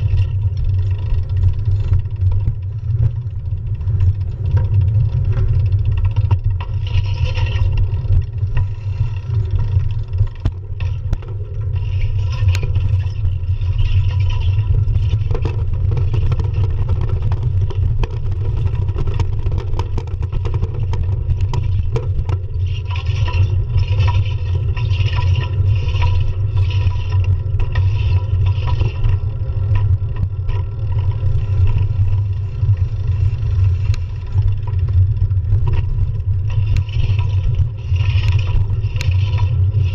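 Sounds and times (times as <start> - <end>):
bicycle scrapes and rattles: 0.0 - 39.9
road vibration rumble: 0.0 - 39.9
wind: 0.0 - 39.9.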